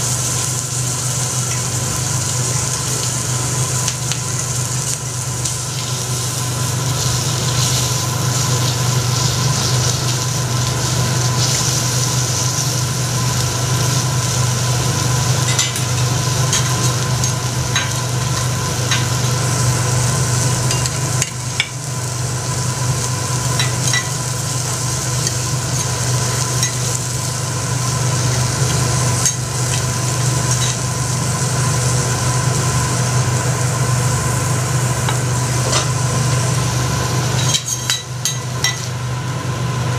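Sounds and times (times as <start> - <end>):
food sizzling on griddle: 0.0 - 39.9
steady low hum: 0.0 - 39.9.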